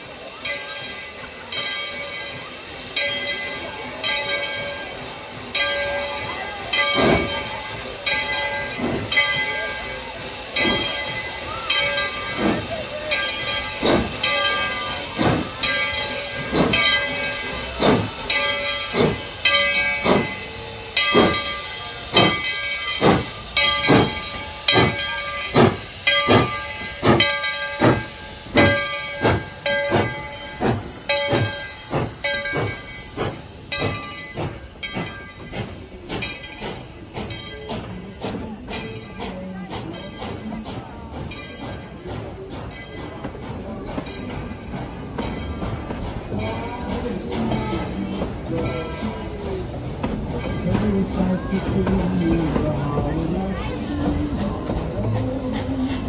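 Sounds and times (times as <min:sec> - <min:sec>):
hiss of escaping steam: 0:00.0 - 0:56.0
steam locomotive chuffing: 0:00.0 - 0:56.0.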